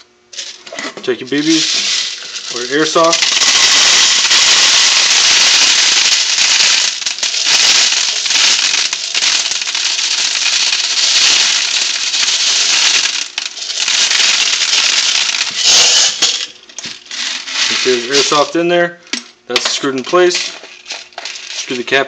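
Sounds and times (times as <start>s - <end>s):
plastic pellets pouring into bottle: 1.3s - 18.6s, 20.0s - 22.0s.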